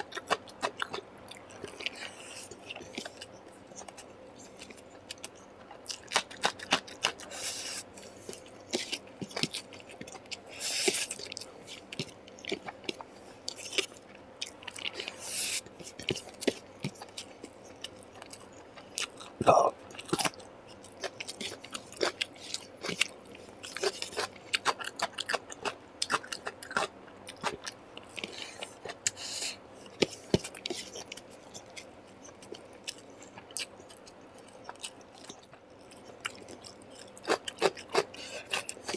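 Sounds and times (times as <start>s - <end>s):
close chewing and crunching food: 0.0s - 38.9s.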